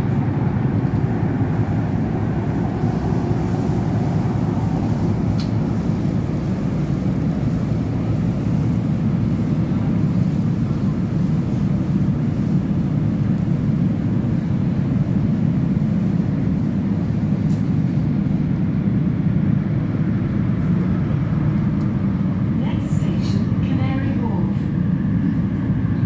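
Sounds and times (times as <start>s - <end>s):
train low rumble inside carriage: 0.0s - 26.0s.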